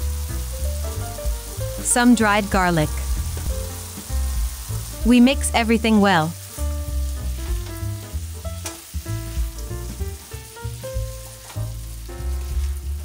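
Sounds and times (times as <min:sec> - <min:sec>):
background music: 0:00.0 - 0:13.0
vegetables sizzling in a frying pan: 0:00.0 - 0:13.0.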